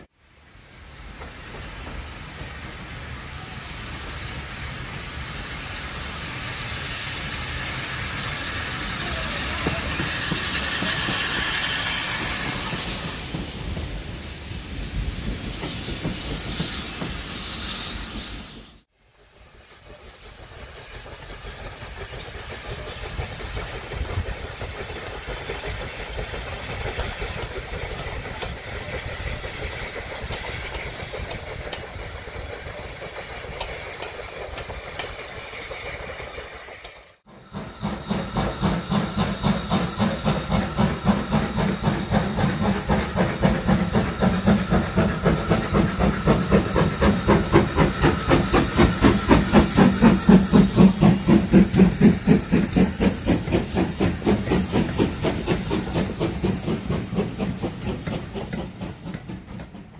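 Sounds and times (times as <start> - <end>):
passing train hiss and rumble: 0.0 - 59.9
steam locomotive exhaust beats: 0.0 - 59.9.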